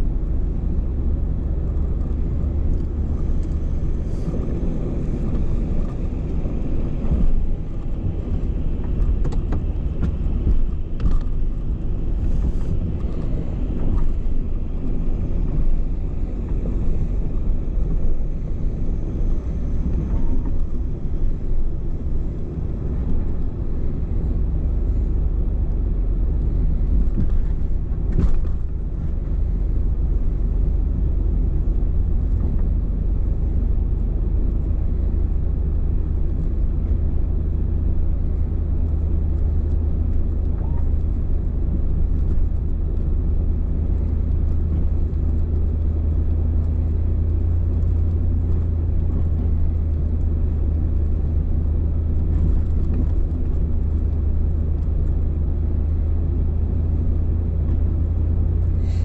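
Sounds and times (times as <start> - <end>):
truck engine and tyres rumbling: 0.0 - 59.0.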